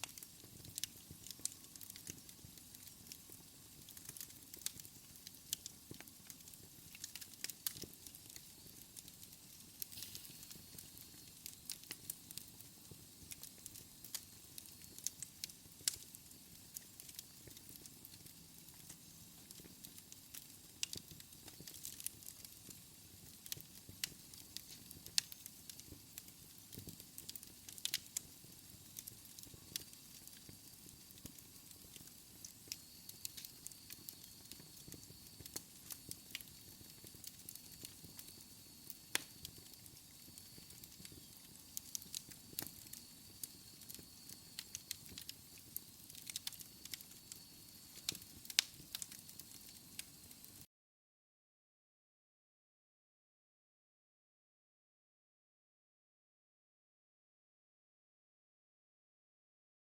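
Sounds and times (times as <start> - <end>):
faint hiss: 0.0 - 50.6
wood fire crackling: 0.0 - 50.7.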